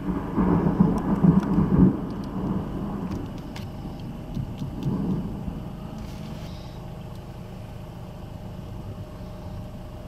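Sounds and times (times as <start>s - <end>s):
faint steady hum: 0.0s - 10.0s
vehicle engine idling: 0.0s - 10.0s.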